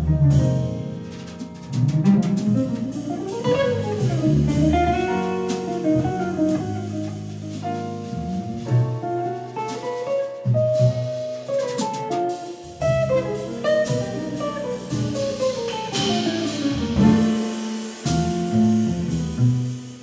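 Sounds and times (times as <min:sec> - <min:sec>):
jazz quartet playing: 0:00.0 - 0:20.0
archtop guitar melody: 0:02.0 - 0:19.9.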